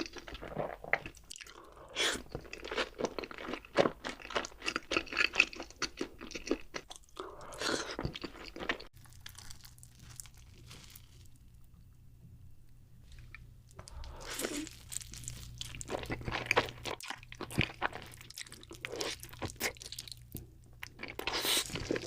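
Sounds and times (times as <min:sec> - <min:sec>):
crunching and chewing food: 0:00.0 - 0:11.8, 0:13.1 - 0:22.0.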